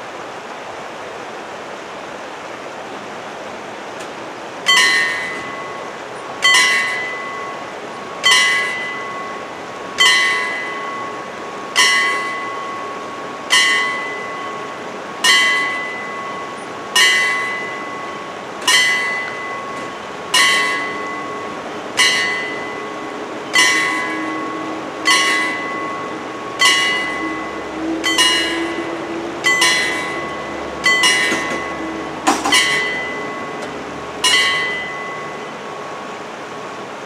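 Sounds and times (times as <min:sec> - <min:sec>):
steady low hum: 0:00.0 - 0:37.0
level crossing warning bells: 0:04.4 - 0:37.0.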